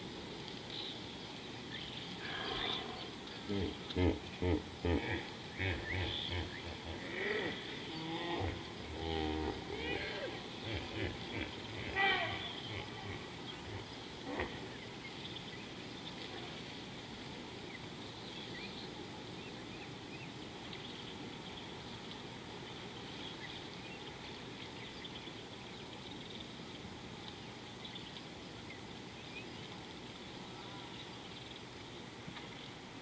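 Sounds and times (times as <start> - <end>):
faint outdoor hiss: 0.0 - 33.0
insects pulsing chorus: 0.0 - 33.0.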